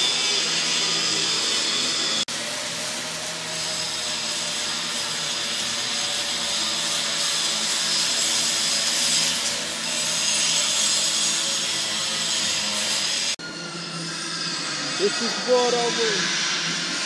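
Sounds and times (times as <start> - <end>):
power tool whirring: 0.0 - 17.0.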